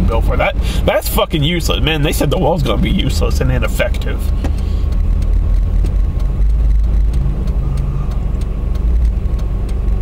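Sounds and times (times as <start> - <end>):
car road and engine rumble: 0.0 - 10.0
faint regular ticking: 0.1 - 10.0.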